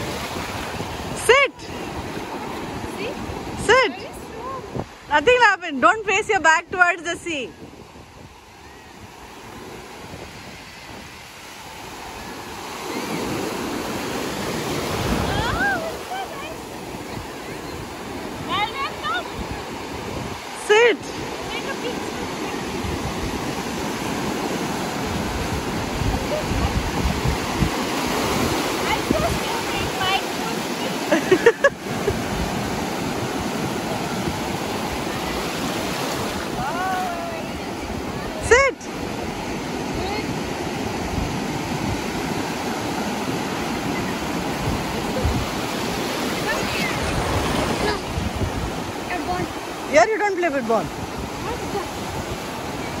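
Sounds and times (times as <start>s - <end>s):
sea waves breaking: 0.0s - 53.0s.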